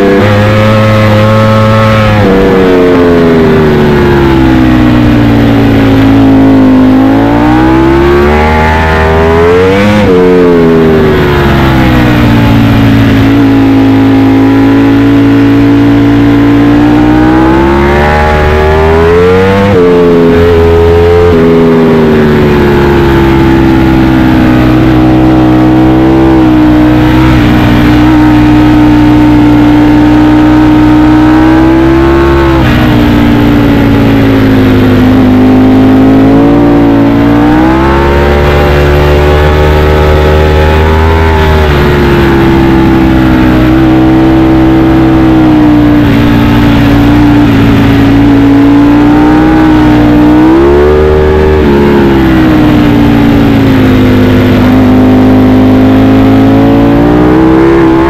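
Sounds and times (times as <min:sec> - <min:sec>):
motorcycle engine revving high: 0:00.0 - 0:58.0.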